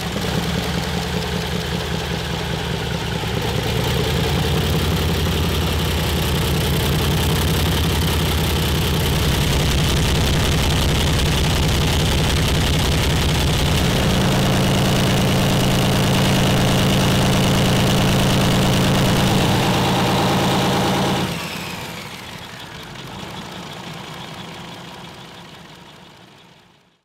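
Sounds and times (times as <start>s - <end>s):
engine winding down whine: 0.0s - 27.0s
locomotive diesel engine running: 0.0s - 27.0s.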